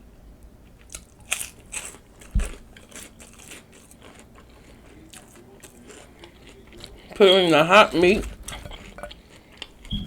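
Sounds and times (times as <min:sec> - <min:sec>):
crunching chips: 0:00.8 - 0:09.8.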